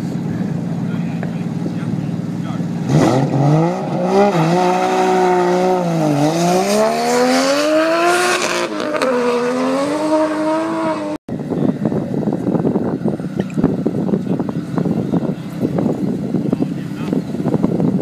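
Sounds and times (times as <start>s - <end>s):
drag car accelerating: 0.0s - 18.0s.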